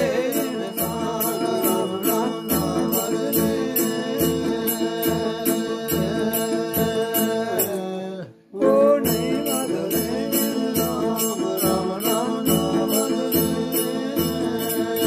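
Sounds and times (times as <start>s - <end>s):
plucked string instrument: 0.0s - 8.0s, 8.6s - 15.0s
voices singing together: 0.0s - 15.0s.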